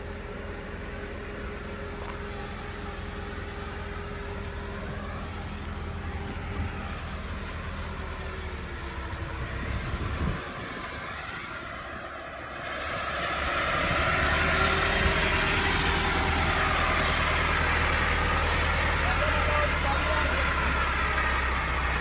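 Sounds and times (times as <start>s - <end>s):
heavy diesel engines running: 0.0s - 22.0s.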